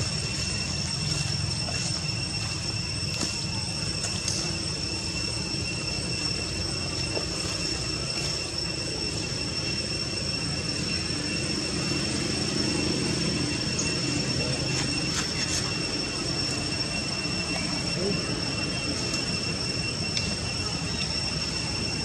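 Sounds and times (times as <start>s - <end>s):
constant high-pitched whine: 0.0s - 22.0s.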